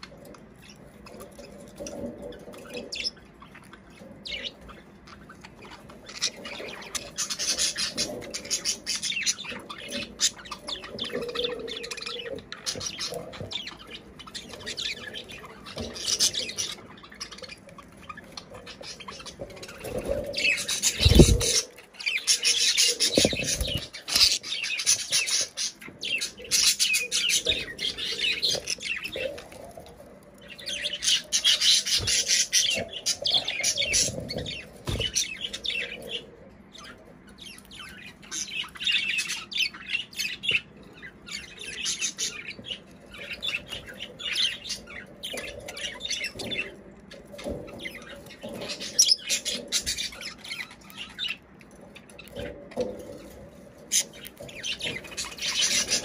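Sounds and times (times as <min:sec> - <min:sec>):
budgerigars chattering: 0:00.0 - 0:29.7, 0:30.4 - 0:56.0.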